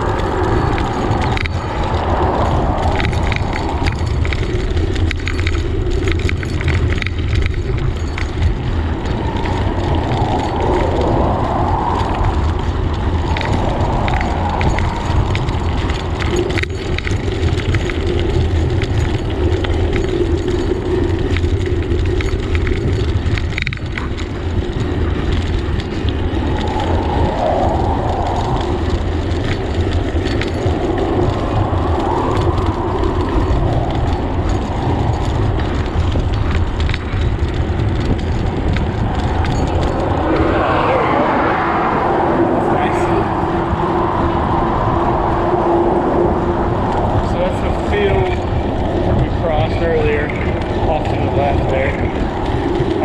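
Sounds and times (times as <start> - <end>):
tyre and road noise: 0.0 - 53.0
wind rushing over microphone: 0.0 - 53.0.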